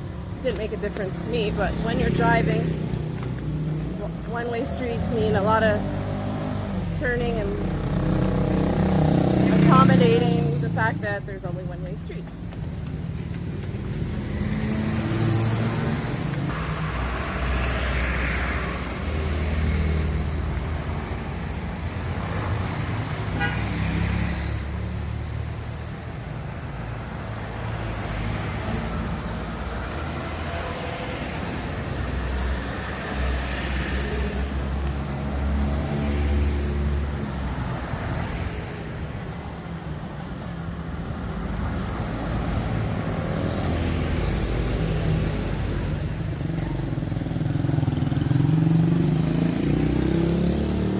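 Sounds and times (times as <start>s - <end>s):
car engine and road rumble: 0.0s - 50.9s
passing traffic: 0.0s - 50.9s.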